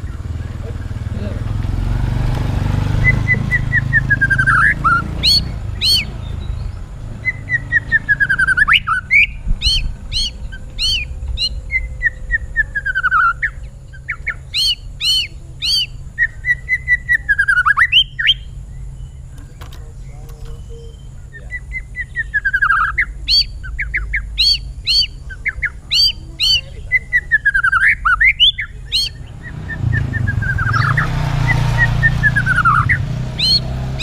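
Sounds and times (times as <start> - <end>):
bird singing whistled notes and chirps: 2.4 - 34.0.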